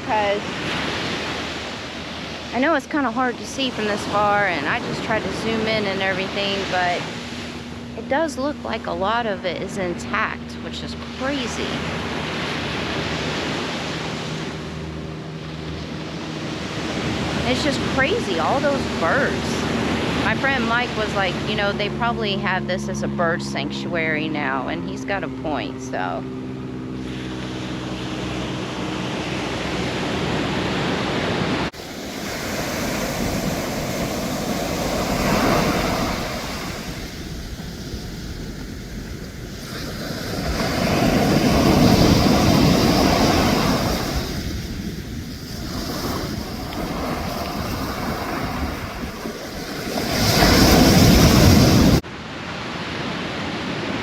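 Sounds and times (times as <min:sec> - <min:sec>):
ocean surf washing onto beach: 0:00.0 - 0:26.1, 0:27.0 - 0:54.0
wind on microphone: 0:00.0 - 0:54.0.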